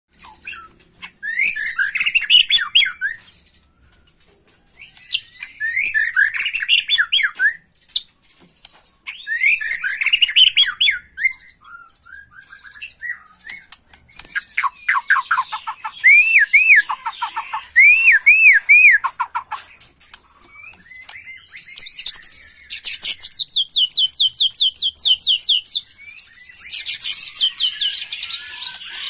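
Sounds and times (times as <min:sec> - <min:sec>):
bird singing: 0:00.1 - 0:29.0.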